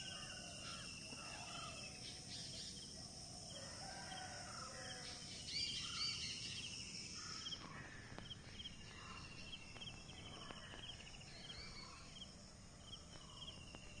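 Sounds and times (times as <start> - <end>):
birds chirping and trilling: 0.0 - 14.0
steady low background noise: 0.1 - 14.0.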